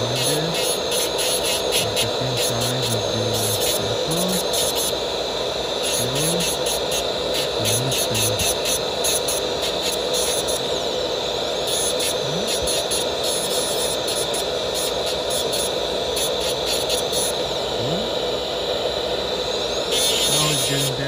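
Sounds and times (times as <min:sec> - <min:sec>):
dental handpiece disc grinding: 0:00.0 - 0:05.0, 0:05.8 - 0:10.8, 0:11.6 - 0:17.4, 0:19.6 - 0:21.0.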